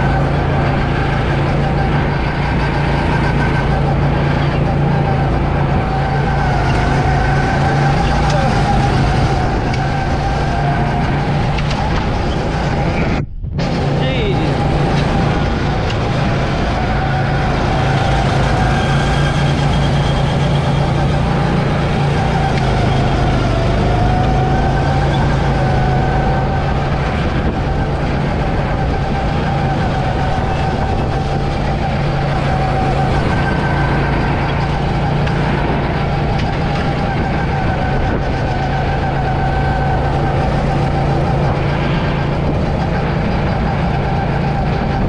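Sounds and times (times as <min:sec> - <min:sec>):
constant rushing noise: 0:00.0 - 0:45.0
go-kart motor humming: 0:00.0 - 0:45.0.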